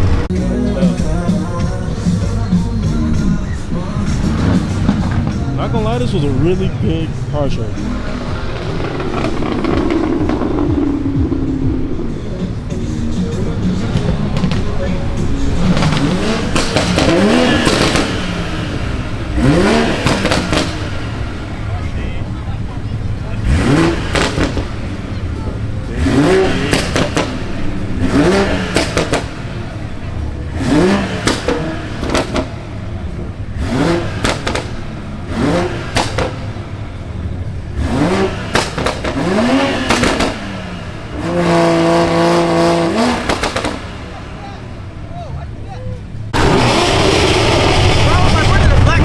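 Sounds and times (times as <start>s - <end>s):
car engine revving: 0.0s - 49.0s
exhaust crackles and pops: 2.2s - 49.0s.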